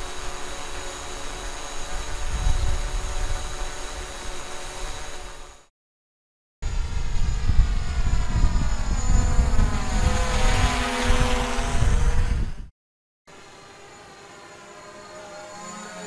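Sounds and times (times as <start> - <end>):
drone propellers whining: 0.0 - 5.7, 6.6 - 12.7, 13.3 - 16.0.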